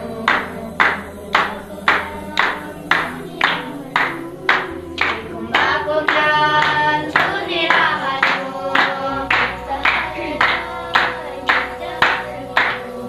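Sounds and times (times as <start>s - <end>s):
children singing: 0.0s - 13.0s
hand-clapping: 0.0s - 13.0s.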